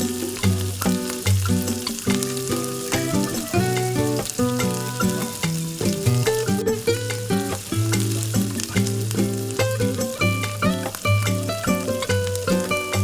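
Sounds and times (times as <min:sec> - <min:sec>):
food sizzling in oil: 0:00.0 - 0:13.0
background music: 0:02.2 - 0:13.0.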